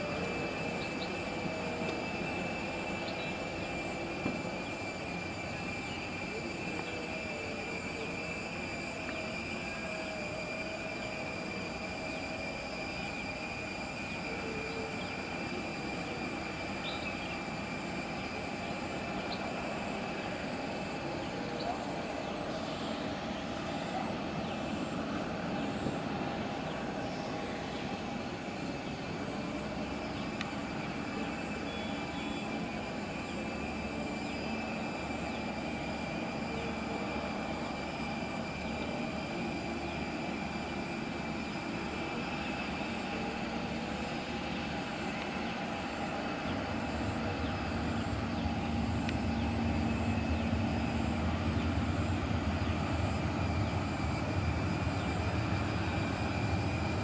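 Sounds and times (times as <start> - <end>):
distant jet engines whining: 0.0 - 57.0.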